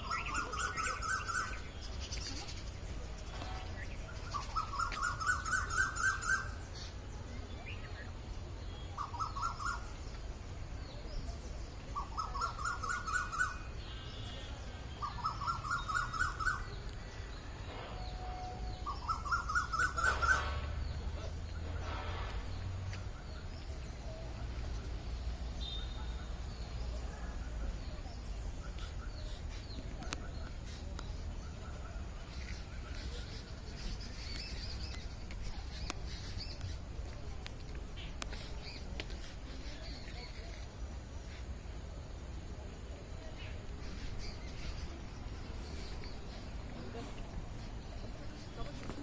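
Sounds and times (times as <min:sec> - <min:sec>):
faint bird chirps: 0:00.0 - 0:49.0.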